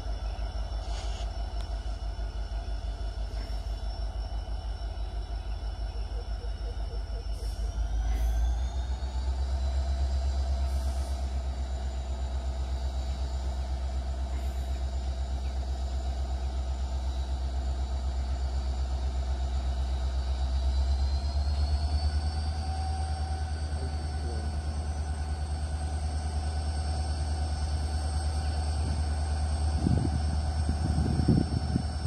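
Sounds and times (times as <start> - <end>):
distant locomotive rumble: 0.0 - 32.0
high engine whine: 0.0 - 32.0.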